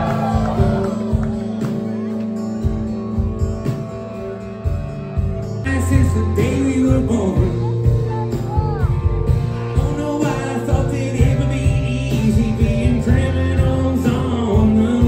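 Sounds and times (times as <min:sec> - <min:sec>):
bass guitar: 0:00.0 - 0:15.0
drums: 0:00.0 - 0:15.0
electric guitar: 0:00.0 - 0:15.0.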